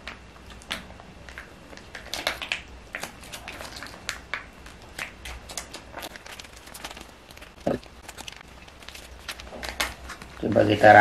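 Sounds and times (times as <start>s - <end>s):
foil sachets crinkling: 1.3s - 11.0s.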